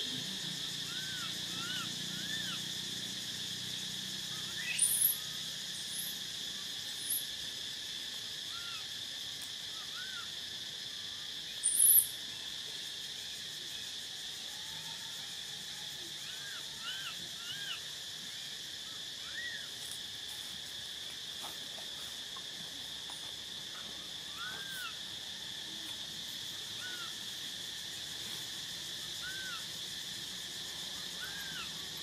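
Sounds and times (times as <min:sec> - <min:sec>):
insect drone: 0:00.0 - 0:32.0.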